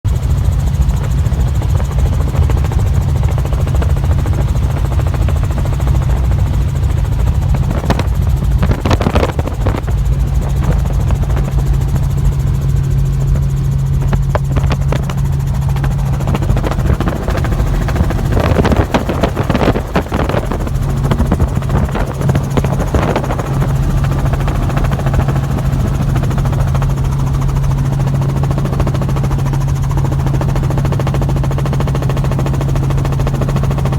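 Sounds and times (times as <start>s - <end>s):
helicopter drone: 0.1s - 33.9s.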